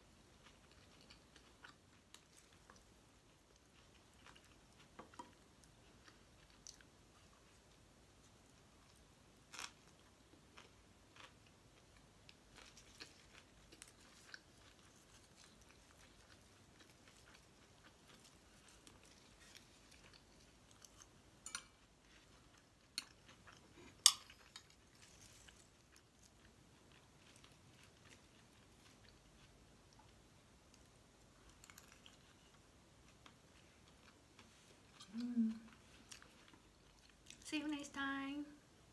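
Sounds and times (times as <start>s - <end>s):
person chewing: 0.3s - 37.4s.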